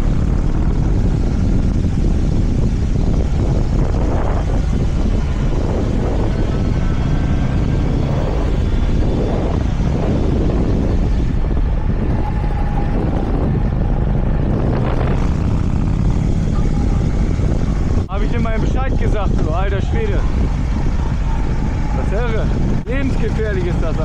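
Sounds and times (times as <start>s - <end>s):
motorcycle engine: 0.0s - 24.0s
wind rushing over microphone: 0.0s - 24.0s.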